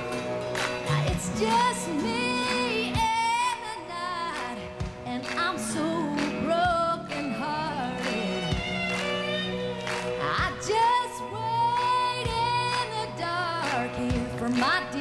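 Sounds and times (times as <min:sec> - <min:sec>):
instrumental backing: 0:00.0 - 0:15.0
woman singing a country ballad: 0:00.6 - 0:09.2, 0:10.2 - 0:15.0.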